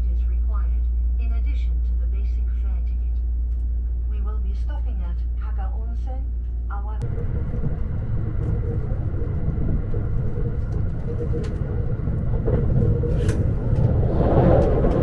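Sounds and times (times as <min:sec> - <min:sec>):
train interior rumble: 0:00.0 - 0:15.0.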